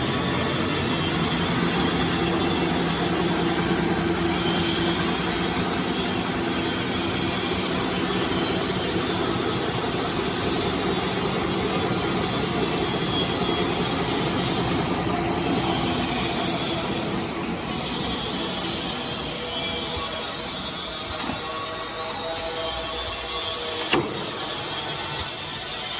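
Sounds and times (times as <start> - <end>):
machine whirring with low hum: 0.0 - 25.9.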